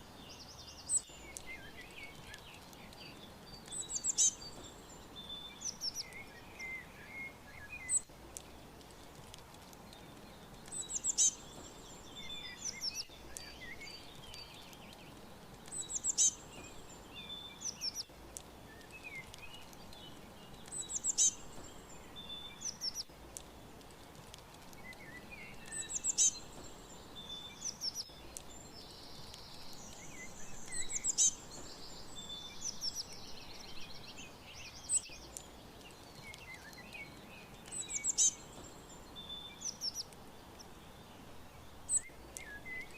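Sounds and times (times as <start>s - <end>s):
loud high bird song phrase: 0.0s - 8.1s, 10.3s - 15.1s, 15.7s - 23.1s, 24.8s - 42.9s
faint background hiss: 0.0s - 42.9s
songbirds chirping and singing: 0.0s - 42.9s.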